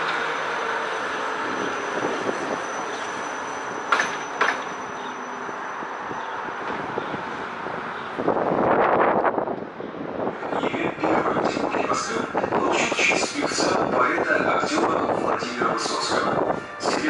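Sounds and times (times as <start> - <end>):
tram rolling rumble: 0.0 - 17.0.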